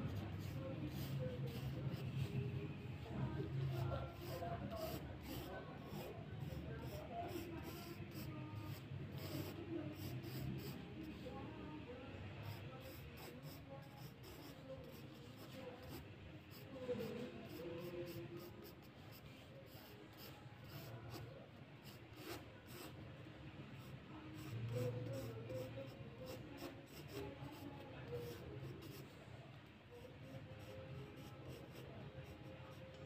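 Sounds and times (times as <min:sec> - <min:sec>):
pencil scratching on paper: 0:00.0 - 0:02.4, 0:03.6 - 0:11.2, 0:12.4 - 0:23.0, 0:23.8 - 0:29.2, 0:30.0 - 0:33.0
faint low background noise: 0:00.0 - 0:33.0.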